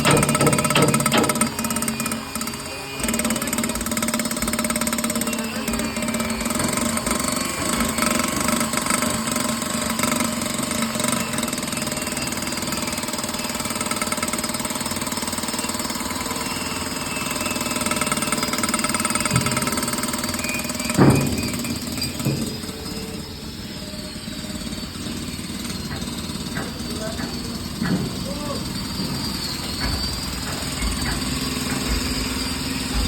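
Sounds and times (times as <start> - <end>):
valve grinder humming and rattling: 0.0 - 33.0.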